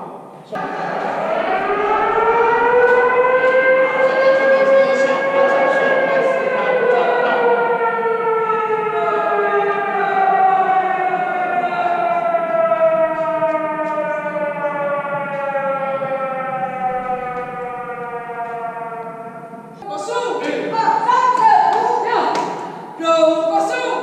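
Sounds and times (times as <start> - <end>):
air-raid siren wailing: 0.6 - 20.4.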